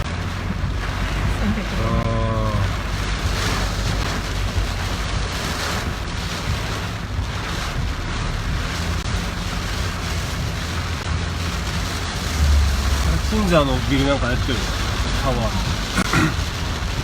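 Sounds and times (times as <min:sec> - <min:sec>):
car tyres on wet road: 0:00.0 - 0:17.0
wind and rain rushing: 0:00.0 - 0:17.0.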